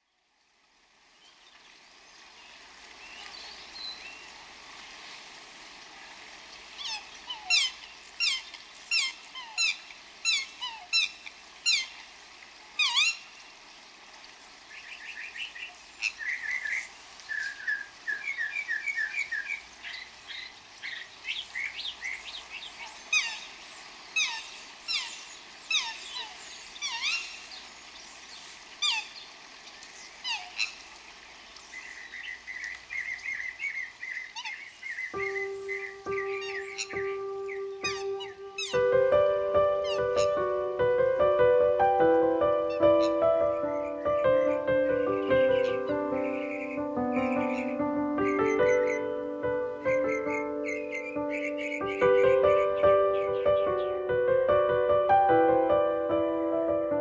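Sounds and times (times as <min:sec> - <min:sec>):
faint background noise: 0:00.0 - 0:57.0
songbird chirping: 0:01.1 - 0:04.5, 0:06.0 - 0:57.0.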